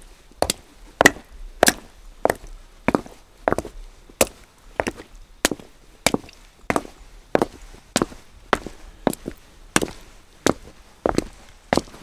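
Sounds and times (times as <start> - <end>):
footsteps on wet cobblestones: 0.4 - 12.0.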